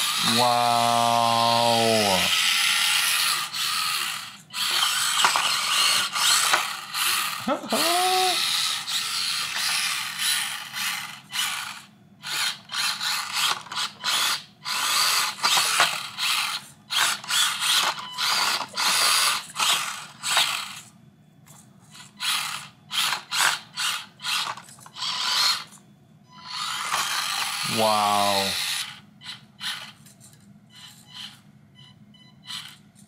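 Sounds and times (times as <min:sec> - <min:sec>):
toy car motor whirring: 0:00.0 - 0:25.8, 0:26.4 - 0:31.4, 0:32.4 - 0:33.0.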